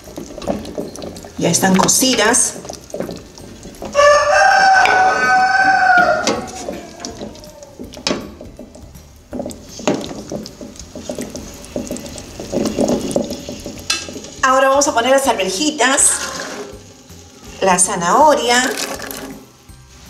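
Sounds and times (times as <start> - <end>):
wooden spoon scraping a pot: 0.0 - 20.0.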